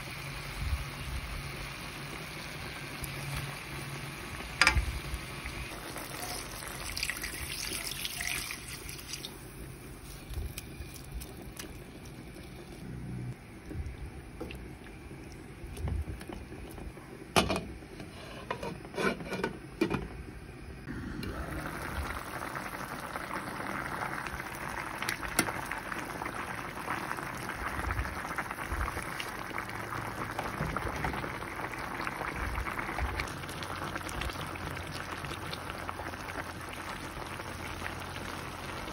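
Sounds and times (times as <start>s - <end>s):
broth sizzling in a wok: 0.0s - 13.3s, 20.8s - 38.9s
broth simmering hiss: 0.0s - 19.4s, 20.6s - 38.9s.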